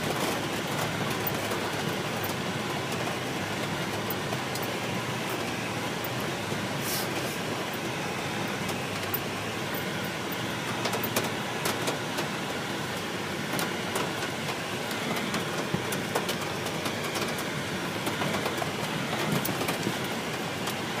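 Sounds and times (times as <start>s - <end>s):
raindrops tapping on car roof: 0.0s - 21.0s
road and engine noise: 0.0s - 21.0s.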